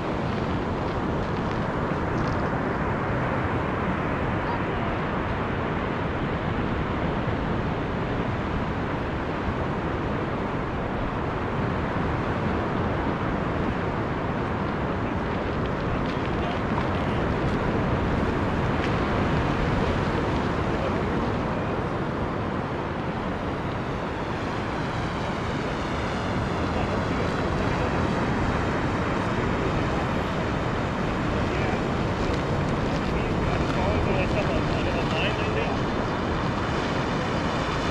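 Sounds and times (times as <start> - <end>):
surf: 0.0 - 37.9
wind: 0.0 - 37.9.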